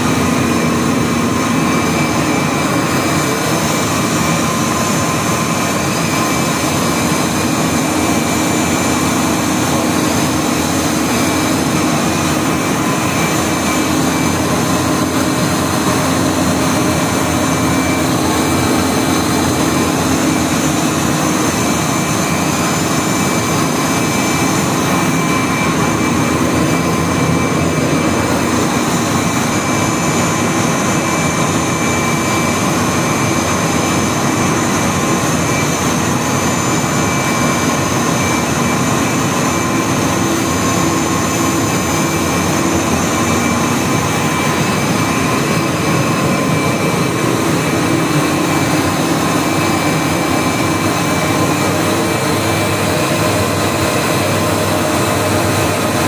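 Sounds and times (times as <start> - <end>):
high steady machine whines: 0.0 - 56.0.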